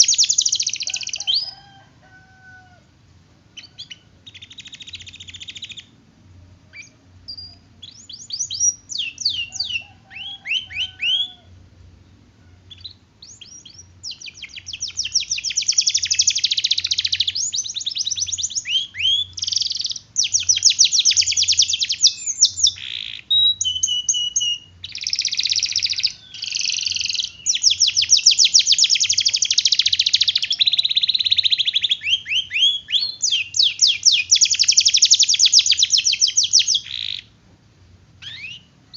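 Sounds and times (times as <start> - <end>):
canary singing: 0.0 - 2.9, 3.5 - 37.4, 38.2 - 38.9.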